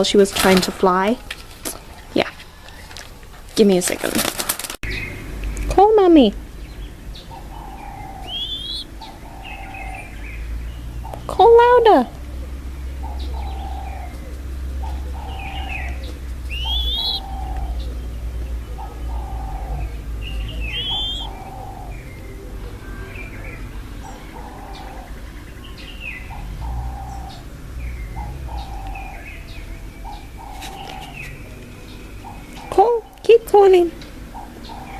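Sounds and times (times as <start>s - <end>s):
birds chirping: 0.0s - 34.9s
dove cooing: 4.3s - 34.9s.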